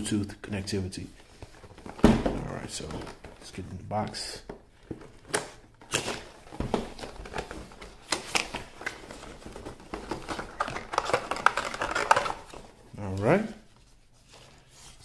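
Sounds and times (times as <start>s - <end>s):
card rustling: 1.0s - 15.0s.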